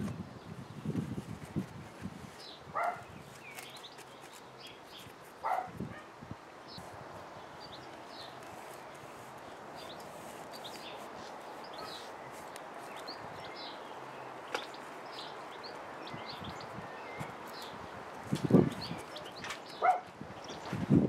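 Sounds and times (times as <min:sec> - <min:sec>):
outdoor background noise: 0:00.0 - 0:21.0
small birds chirping: 0:00.4 - 0:21.0.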